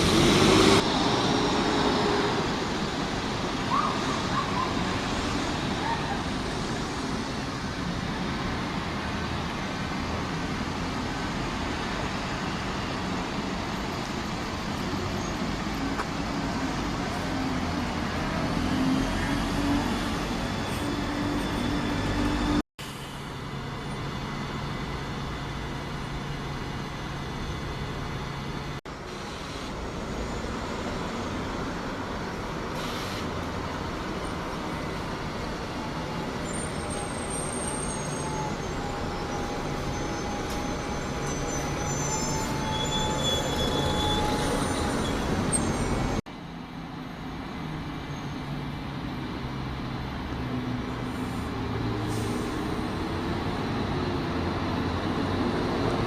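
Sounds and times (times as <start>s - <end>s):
large vehicles running: 0.0s - 56.0s.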